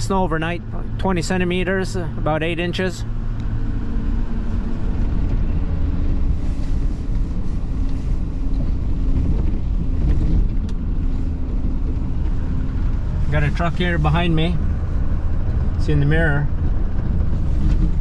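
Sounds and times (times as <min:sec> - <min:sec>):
truck engine and road noise: 0:00.0 - 0:18.0.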